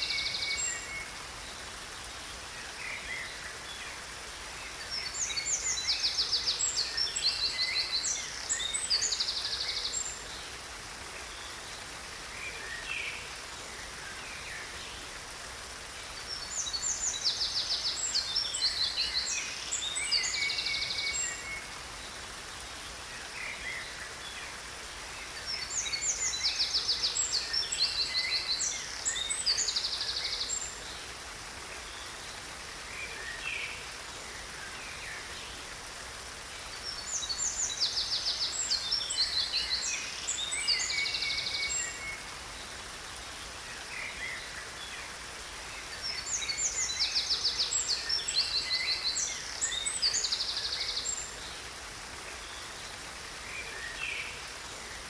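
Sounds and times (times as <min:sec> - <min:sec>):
faint rush of water: 0:00.0 - 0:55.0
songbirds singing with trills: 0:00.0 - 0:55.0.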